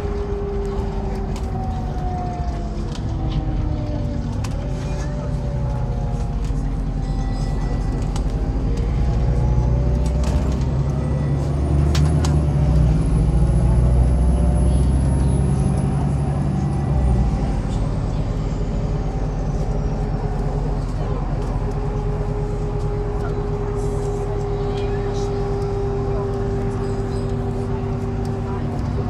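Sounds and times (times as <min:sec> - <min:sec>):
bus engine driving: 0:00.0 - 0:29.0.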